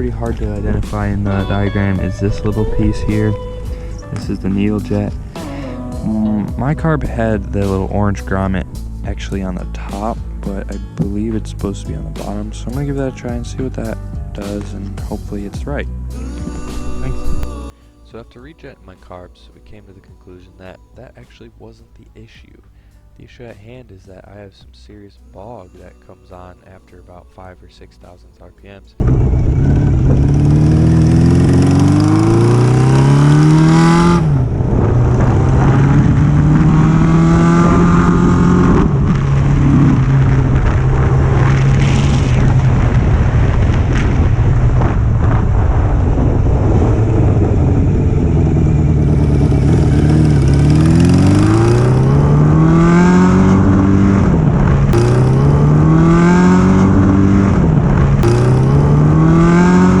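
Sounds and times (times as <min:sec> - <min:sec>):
motorcycle engine revving: 0:00.0 - 0:17.8, 0:29.0 - 1:00.0.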